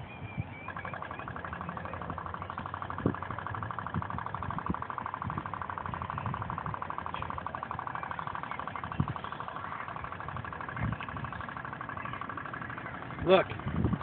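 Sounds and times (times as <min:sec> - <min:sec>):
dull low thumps: 0:00.0 - 0:14.0.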